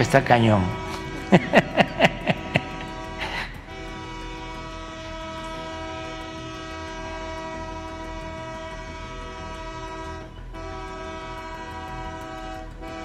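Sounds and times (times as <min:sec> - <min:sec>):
locomotive air horn: 0:00.0 - 0:13.0.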